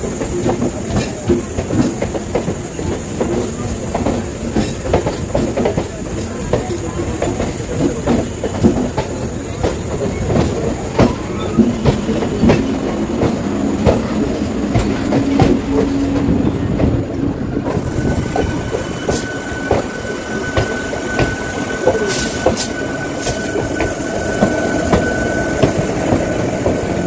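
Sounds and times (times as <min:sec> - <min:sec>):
train rail rumble: 0:00.0 - 0:27.0.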